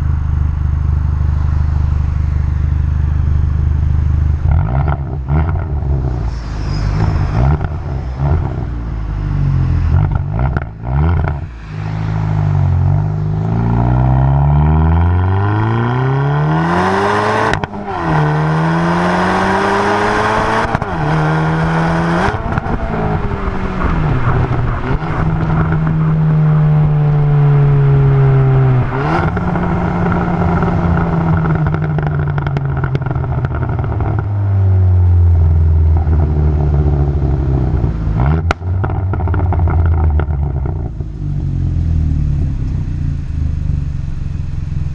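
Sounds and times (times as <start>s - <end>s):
loud car exhaust revving: 0.0s - 44.9s.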